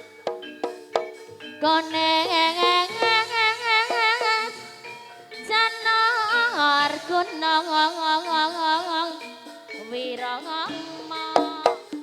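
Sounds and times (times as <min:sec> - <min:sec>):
gamelan accompaniment: 0:00.0 - 0:12.0
solo voice singing ornamented notes: 0:01.6 - 0:12.0.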